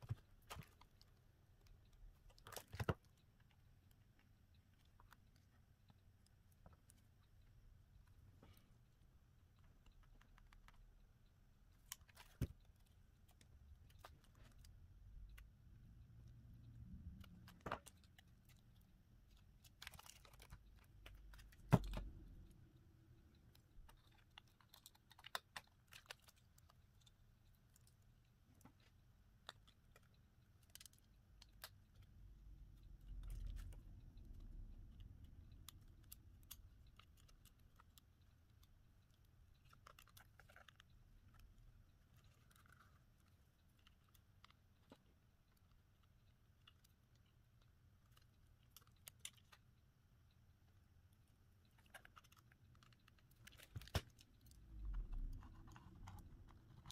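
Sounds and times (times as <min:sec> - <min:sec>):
small clicks and taps: 0:00.0 - 0:56.9.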